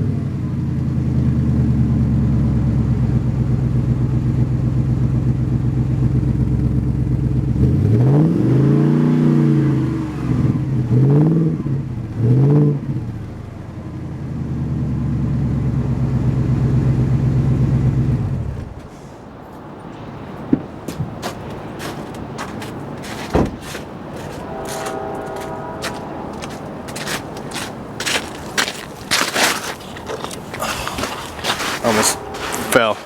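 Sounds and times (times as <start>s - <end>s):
truck engine idling and revving: 0.0s - 18.9s, 21.2s - 33.0s.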